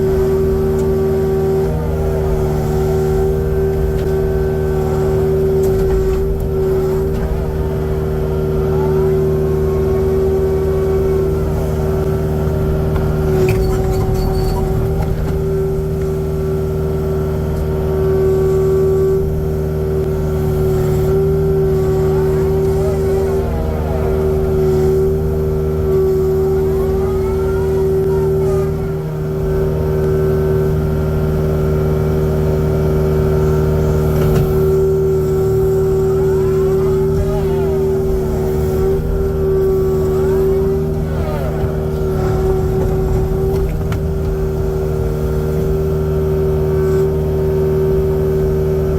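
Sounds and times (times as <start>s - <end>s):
excavator diesel engine running: 0.0s - 48.9s
hydraulic whine: 0.0s - 48.9s.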